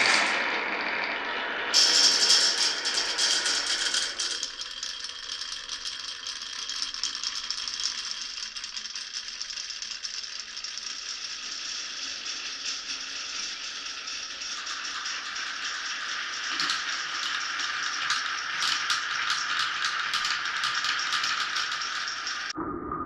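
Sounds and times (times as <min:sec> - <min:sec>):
marbles rattling on wooden run: 0:01.8 - 0:22.5.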